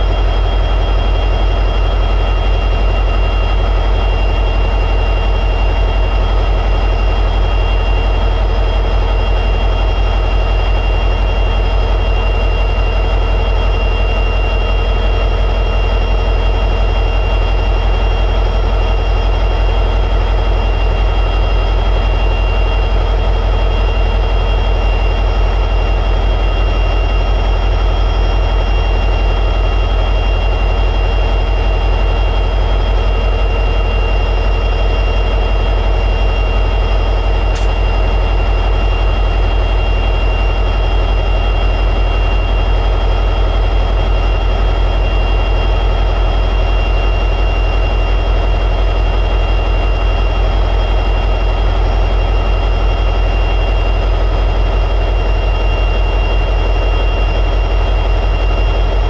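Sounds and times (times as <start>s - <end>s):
diesel locomotive engine idling: 0.0s - 59.0s
high-pitched whine: 0.0s - 59.0s.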